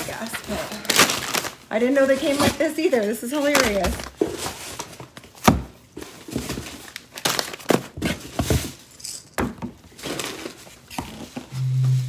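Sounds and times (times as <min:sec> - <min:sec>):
paper crinkling and rustling: 0:00.0 - 0:09.0, 0:09.9 - 0:11.5.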